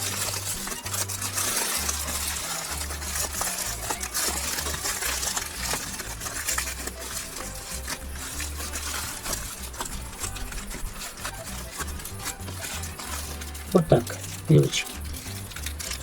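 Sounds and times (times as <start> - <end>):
aluminium foil crinkling: 0.0 - 16.0.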